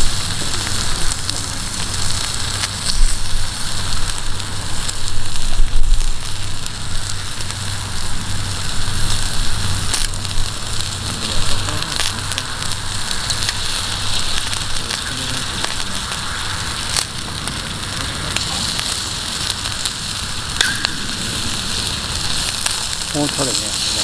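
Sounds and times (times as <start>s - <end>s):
bonfire crackling: 0.0s - 24.0s
sharp fire pops: 0.0s - 24.0s.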